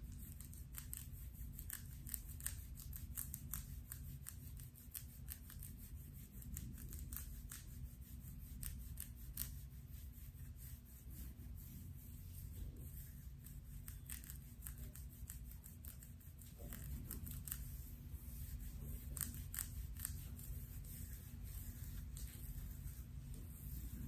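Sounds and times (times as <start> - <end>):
fingernails scratching hair: 0.0 - 24.0
low steady rumble: 0.0 - 24.0.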